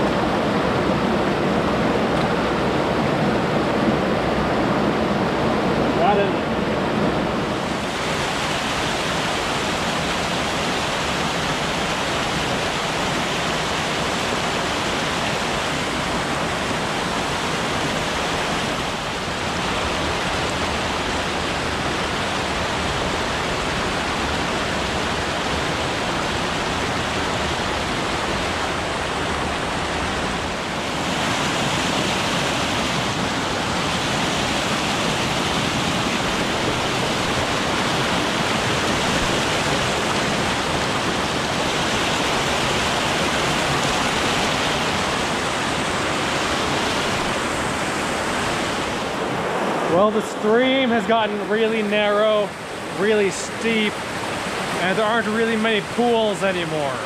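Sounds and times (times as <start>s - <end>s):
water cascading over rocks: 0.0s - 57.0s.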